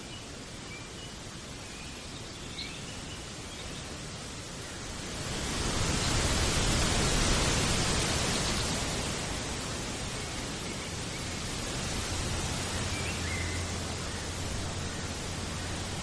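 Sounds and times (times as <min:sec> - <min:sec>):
wind rushing through trees: 0:00.0 - 0:16.0
wind rumble on microphone: 0:00.3 - 0:16.0.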